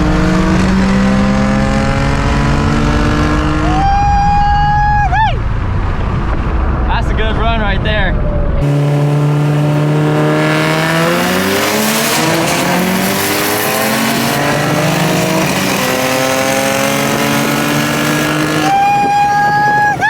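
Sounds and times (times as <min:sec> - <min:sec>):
car engines accelerating hard: 0:00.0 - 0:04.5, 0:05.4 - 0:20.0.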